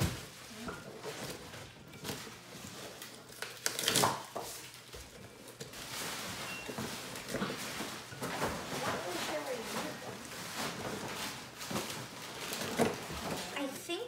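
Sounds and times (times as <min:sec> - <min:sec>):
cardboard tearing: 0:01.2 - 0:04.8, 0:05.5 - 0:13.6.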